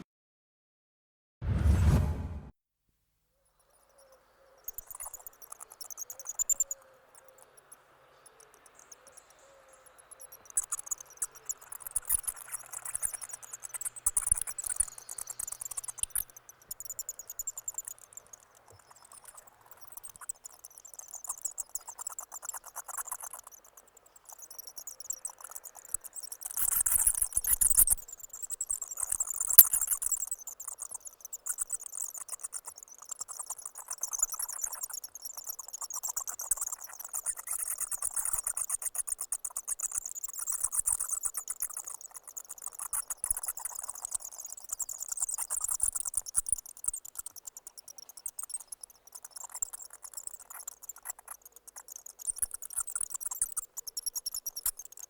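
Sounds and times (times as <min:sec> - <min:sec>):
bats chittering: 0:03.8 - 0:55.0.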